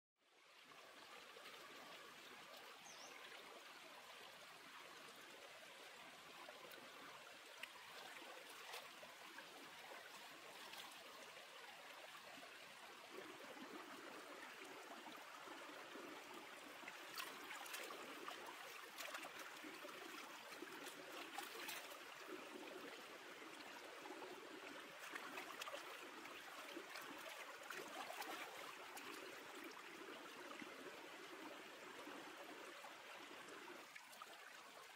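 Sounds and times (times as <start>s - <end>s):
stream trickling over rocks: 0.2s - 34.9s.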